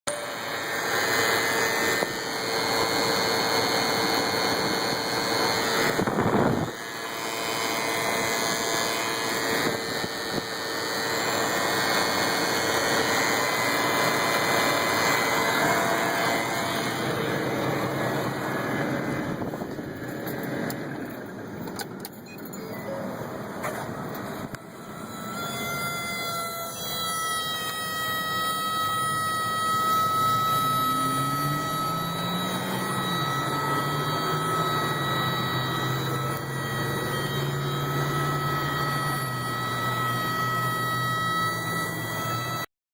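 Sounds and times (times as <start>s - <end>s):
loud steady screech: 0.1s - 20.6s, 22.2s - 42.7s
engine running: 0.1s - 42.7s.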